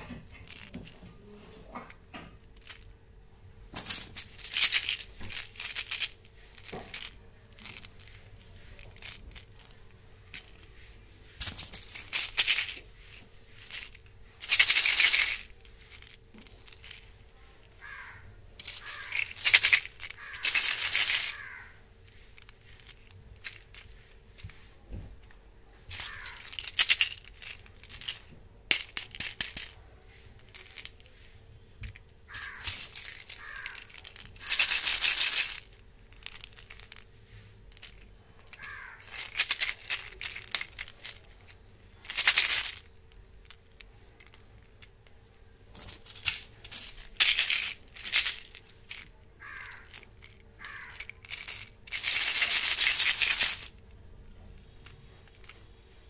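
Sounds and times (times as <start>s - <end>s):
candies rattling in plastic tubes: 0.0s - 3.0s, 3.7s - 56.0s
plastic tubes clicking and knocking: 0.0s - 3.0s, 3.7s - 56.0s.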